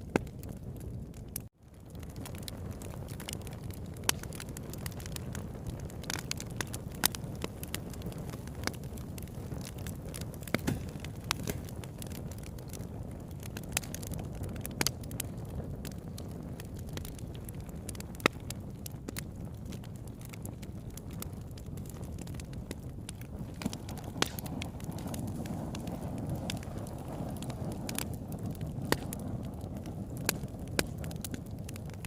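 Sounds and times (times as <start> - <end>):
fire crackling and popping: 0.0 - 32.0
low rush of flame: 0.0 - 32.0.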